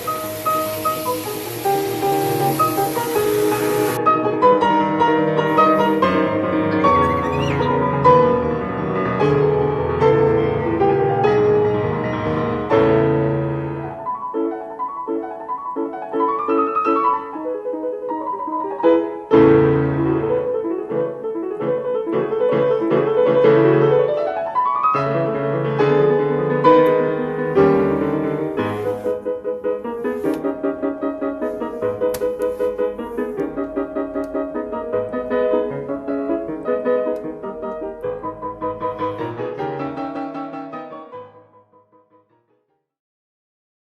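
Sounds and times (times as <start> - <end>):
piano music: 0.0 - 42.4.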